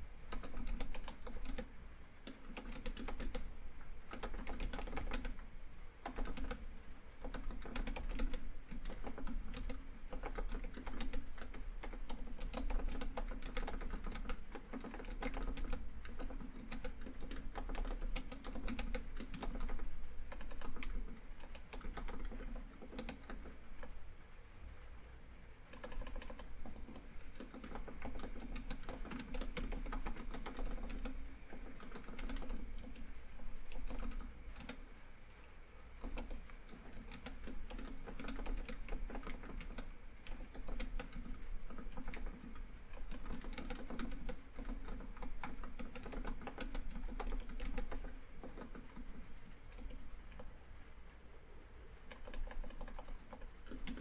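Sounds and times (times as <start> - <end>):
laptop keyboard typing: 0.0 - 24.0, 25.7 - 34.9, 35.9 - 50.6, 51.9 - 54.0.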